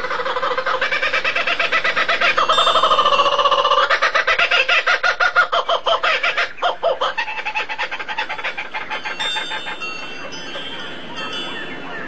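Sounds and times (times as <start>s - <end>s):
bird chattering calls: 0.0s - 12.0s.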